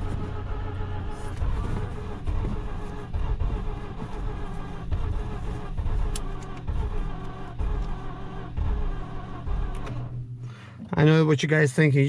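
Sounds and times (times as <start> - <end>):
starter motor cranking engine: 0.0 - 10.2.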